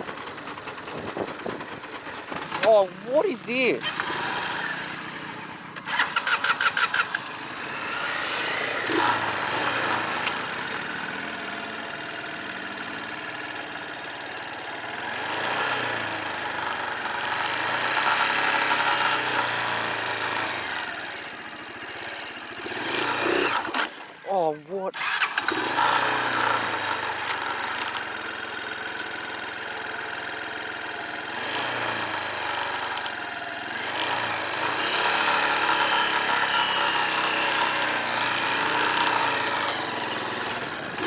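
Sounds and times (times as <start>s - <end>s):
dirt bike engine cranking: 0.0s - 12.8s, 15.1s - 21.0s, 21.9s - 29.7s, 31.0s - 41.0s
dirt bike engine revving: 0.0s - 14.0s, 14.9s - 29.6s, 30.6s - 41.0s.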